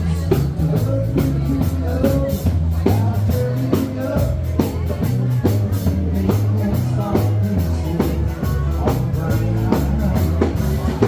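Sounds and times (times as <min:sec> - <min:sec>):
person singing: 0:00.0 - 0:11.0
rock music with drums and bass: 0:00.0 - 0:11.0.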